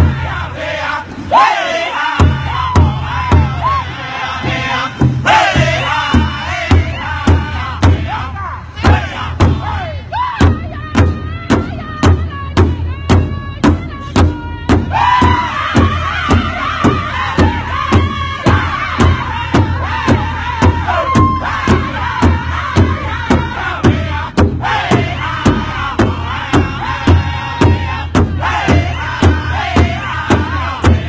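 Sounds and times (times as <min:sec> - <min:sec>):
large drum beating steadily: 0:00.0 - 0:00.8, 0:02.2 - 0:31.0
group singing high-pitched song: 0:00.0 - 0:12.3, 0:13.6 - 0:31.0.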